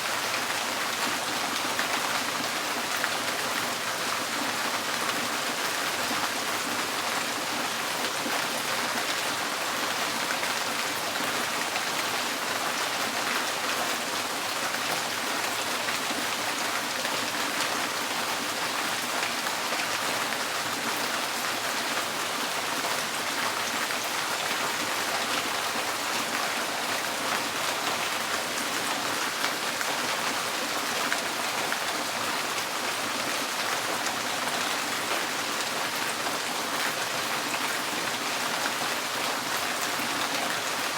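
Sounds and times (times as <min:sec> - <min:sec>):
rain drumming on a tin roof: 0:00.0 - 0:40.9.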